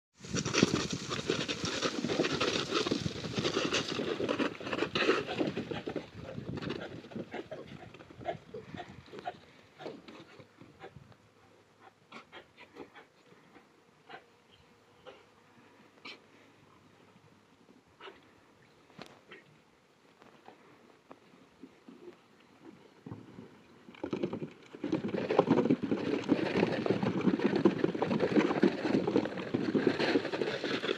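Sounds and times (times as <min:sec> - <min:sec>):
patter of small hooves: 0:00.2 - 0:11.2, 0:15.1 - 0:30.9.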